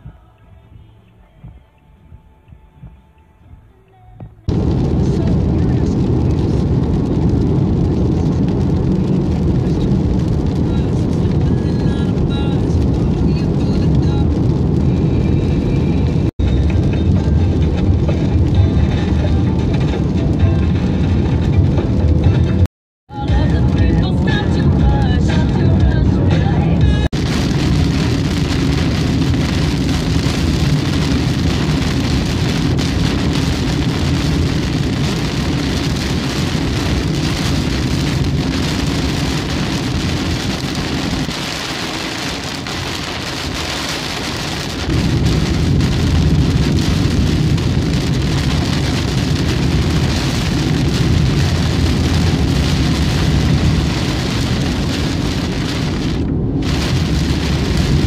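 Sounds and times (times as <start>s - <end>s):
road rumble: 0.0s - 58.0s
heavy rain on car windshield: 4.5s - 22.5s, 23.2s - 26.0s, 27.0s - 58.0s.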